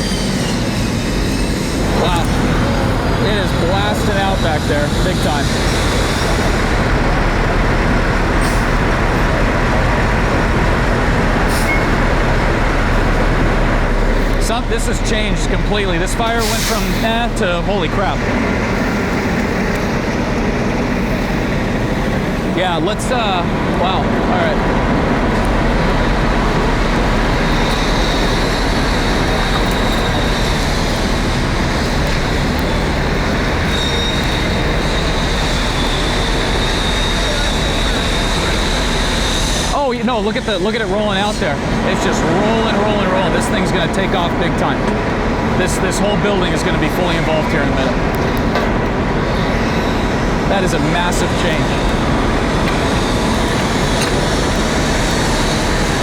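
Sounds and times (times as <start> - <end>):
heavy truck engine running: 0.0 - 56.0.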